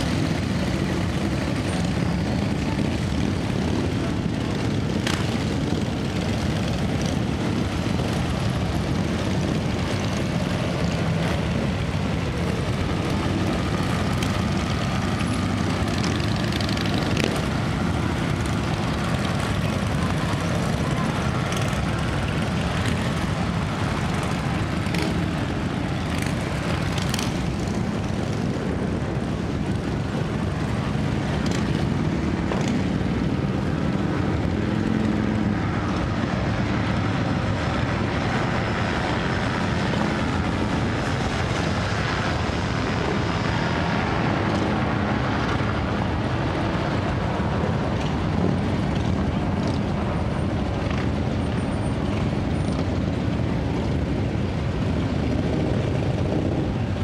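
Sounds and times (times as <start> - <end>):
motorcycle engines rumbling: 0.0 - 57.0.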